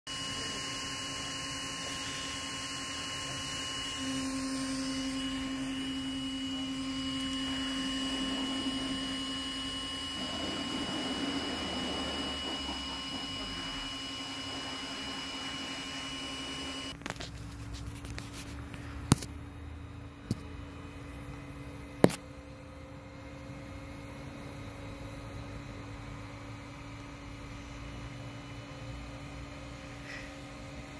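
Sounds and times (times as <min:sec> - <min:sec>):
electronic hum of pure tones: 0:00.1 - 0:30.9.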